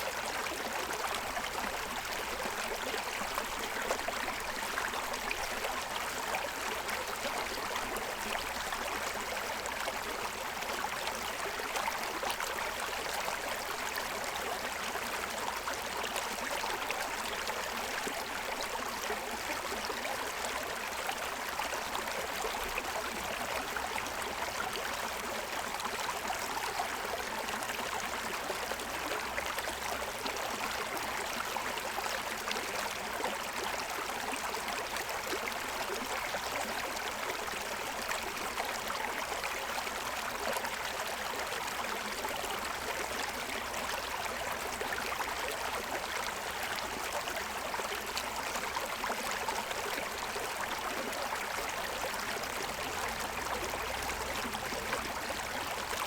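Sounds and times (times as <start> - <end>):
stream babbling over stones: 0.1 - 56.0.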